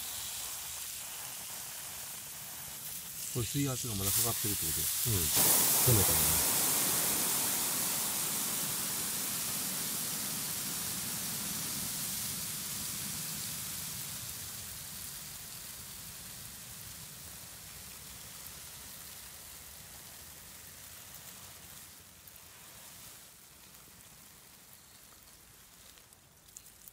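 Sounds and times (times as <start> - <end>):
water spraying from hose leak: 0.0 - 26.9.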